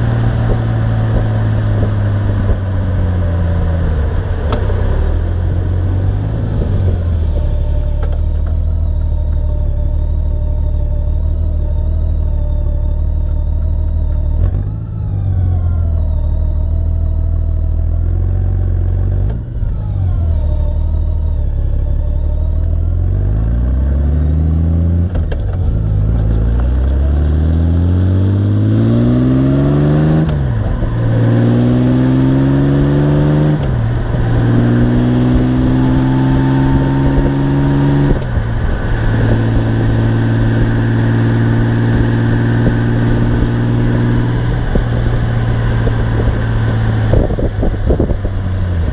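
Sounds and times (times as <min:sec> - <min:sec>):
motorcycle engine accelerating: 0:00.0 - 0:48.9
road and wind noise: 0:00.0 - 0:48.9.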